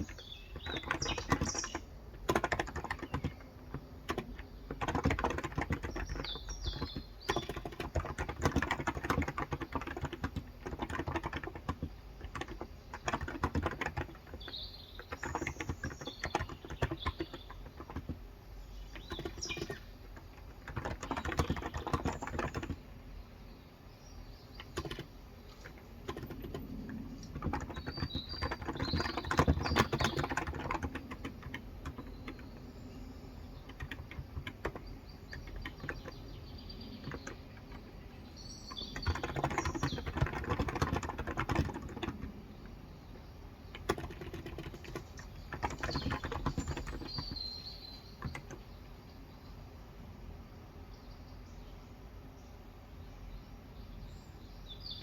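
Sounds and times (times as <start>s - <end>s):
keyboard typing: 0.0s - 22.9s, 24.5s - 48.6s
faint birds chirping: 0.0s - 55.0s.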